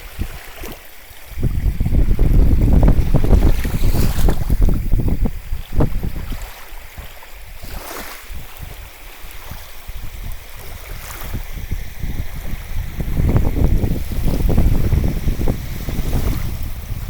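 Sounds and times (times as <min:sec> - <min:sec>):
rush of sea water: 0:00.0 - 0:17.0
wind buffeting microphone: 0:00.0 - 0:17.0.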